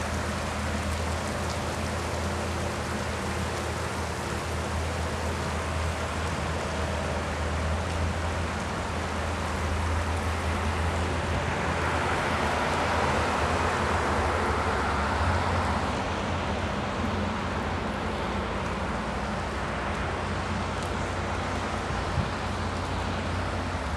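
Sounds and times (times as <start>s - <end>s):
steady rain falling: 0.0s - 23.9s
vehicle passing on wet road: 0.0s - 23.9s.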